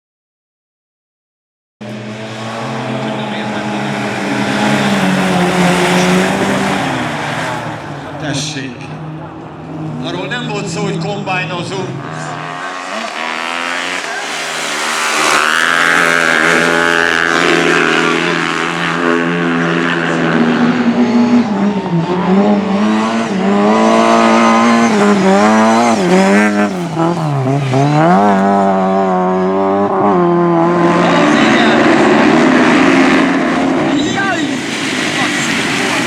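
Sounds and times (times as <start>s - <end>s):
motorcycles racing: 1.8s - 36.0s.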